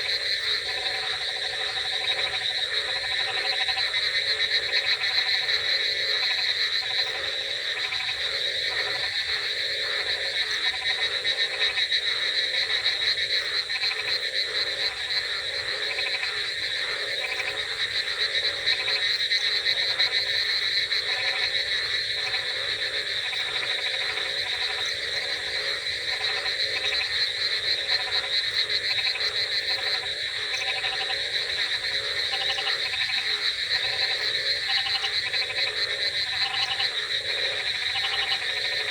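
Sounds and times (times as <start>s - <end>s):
frogs croaking: 0.0s - 38.9s
frogs trilling: 0.0s - 38.9s.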